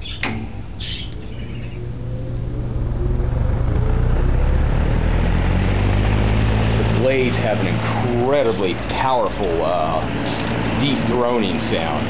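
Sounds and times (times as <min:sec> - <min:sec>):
electric fan motor humming: 0:00.0 - 0:12.0
rising whine: 0:00.0 - 0:12.0.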